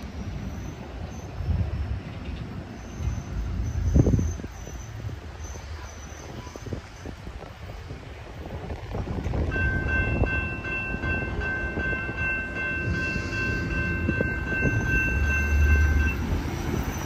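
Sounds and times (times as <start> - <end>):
low rumble of train: 0.0 - 17.0.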